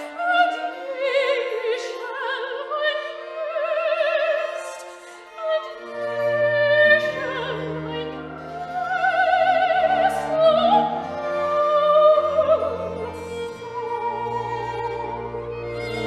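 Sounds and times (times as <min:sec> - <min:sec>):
bowed strings: 0:00.0 - 0:16.0.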